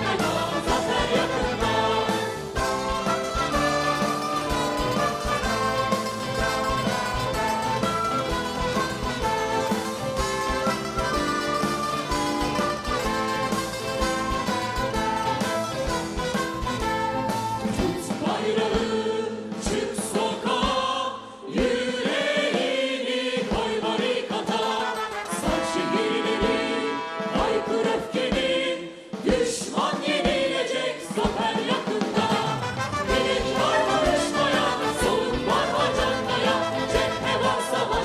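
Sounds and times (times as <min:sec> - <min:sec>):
instrumental accompaniment with beat: 0:00.0 - 0:20.9, 0:21.5 - 0:38.0
mixed choir singing: 0:00.0 - 0:38.0.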